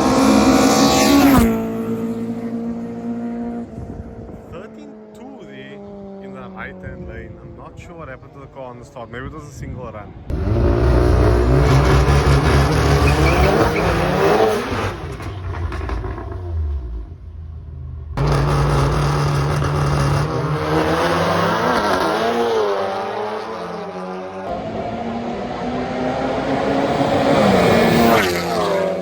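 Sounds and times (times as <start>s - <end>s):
drag racing engines revving: 0.0s - 8.2s, 10.3s - 17.2s, 18.1s - 29.0s.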